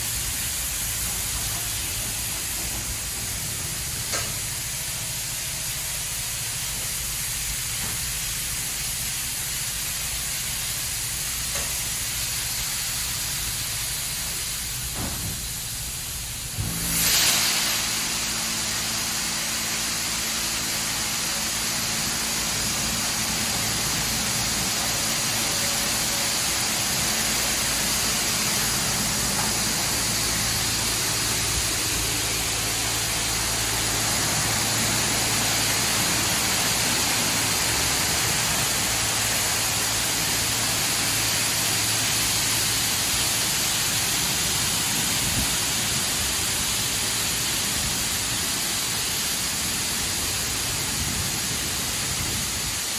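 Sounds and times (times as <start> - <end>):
high-pressure water spraying: 0.0 - 52.9.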